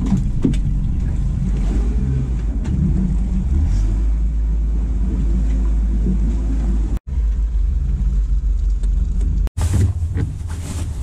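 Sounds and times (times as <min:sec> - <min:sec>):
outboard motor running: 0:00.0 - 0:10.4.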